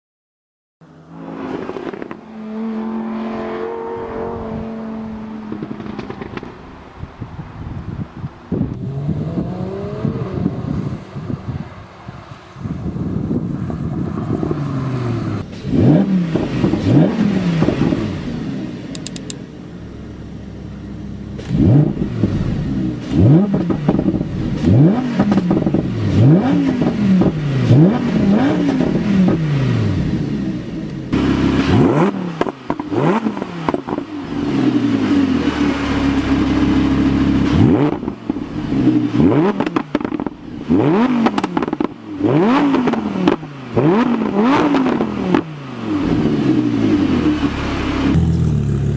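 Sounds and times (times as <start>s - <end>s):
sports car engine revving: 0.8s - 48.9s.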